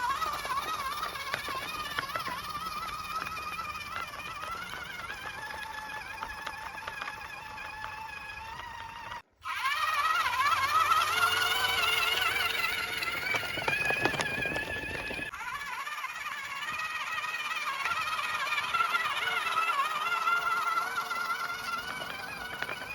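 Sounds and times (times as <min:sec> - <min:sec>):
electric motor whine: 0:00.0 - 0:22.9.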